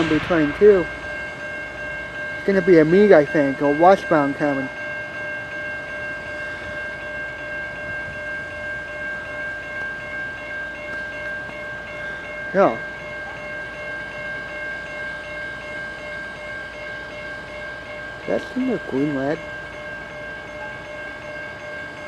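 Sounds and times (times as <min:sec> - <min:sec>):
crossing warning bell ringing: 0:00.0 - 0:22.0.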